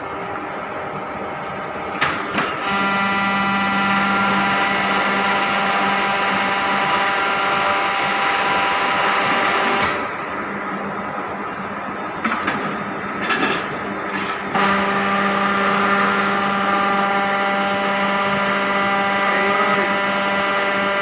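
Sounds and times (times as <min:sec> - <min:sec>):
hydraulic pump whine: 0:00.0 - 0:21.0
low hum: 0:02.6 - 0:21.0.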